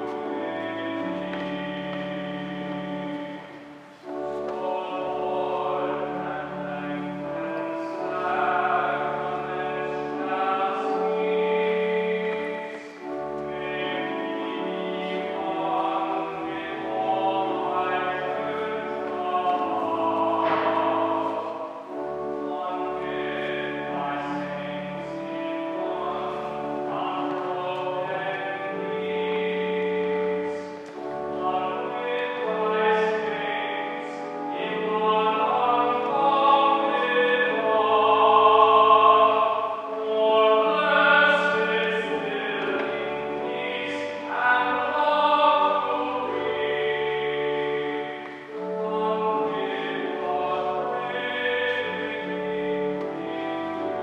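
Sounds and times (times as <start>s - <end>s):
organ chords: 0.0s - 54.0s
person singing a hymn: 0.0s - 54.0s.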